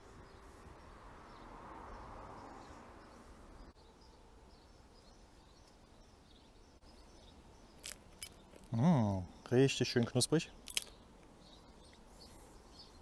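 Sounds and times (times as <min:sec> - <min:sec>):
soft outdoor hiss: 0:00.0 - 0:13.0.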